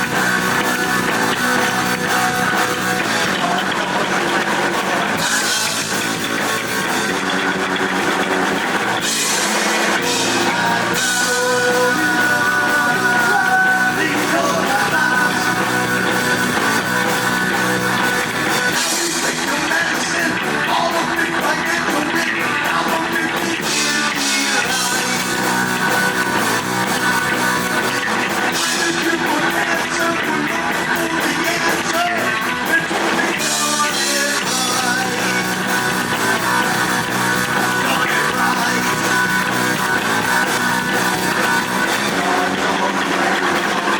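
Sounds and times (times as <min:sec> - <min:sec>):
person singing: 0:00.0 - 0:07.2, 0:09.0 - 0:43.9
heavy metal band playing live: 0:00.0 - 0:43.9.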